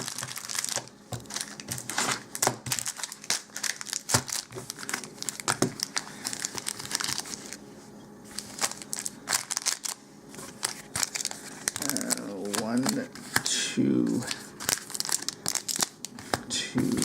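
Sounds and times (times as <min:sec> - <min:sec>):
crinkly wrappers rustling: 0:00.0 - 0:17.0.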